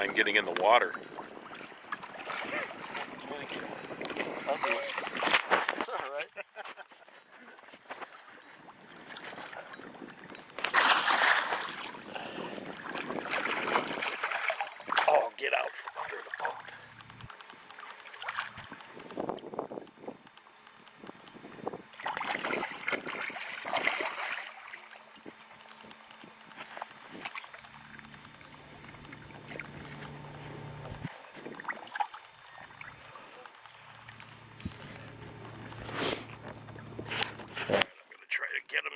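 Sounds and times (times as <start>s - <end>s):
water splashing around a boat: 0.0s - 6.0s, 7.2s - 38.2s
low steady hum: 0.0s - 38.9s.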